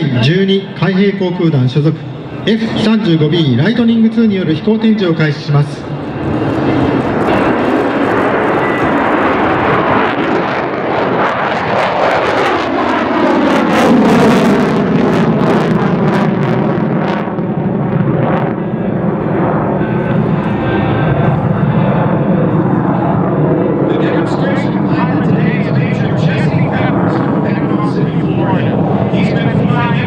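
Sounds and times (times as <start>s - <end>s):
jet engine afterburner roar: 0.0s - 30.0s.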